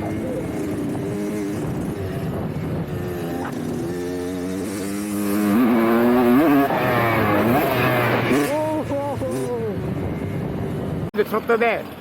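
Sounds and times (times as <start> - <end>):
dirt bike engine revving: 0.0 - 11.1.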